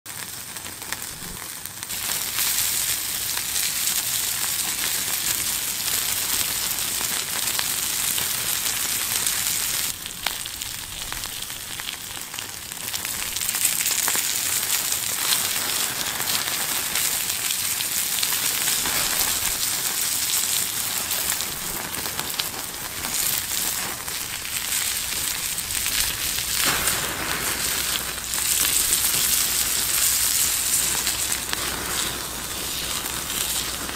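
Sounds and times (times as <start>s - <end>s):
meat sizzling on a griddle: 0.1s - 33.9s.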